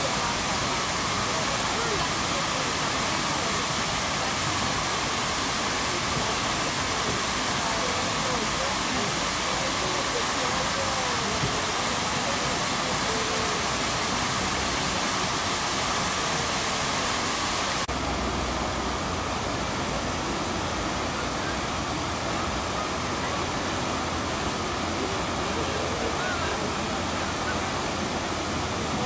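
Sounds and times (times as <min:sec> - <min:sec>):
fountain jet: 0:00.0 - 0:29.0
fountain water splashing: 0:00.0 - 0:29.0.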